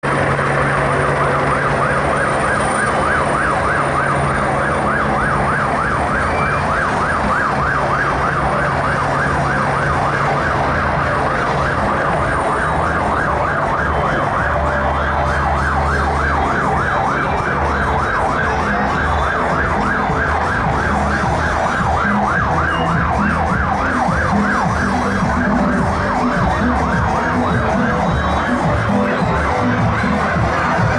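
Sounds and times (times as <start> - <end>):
siren yelping: 0.0 - 30.9.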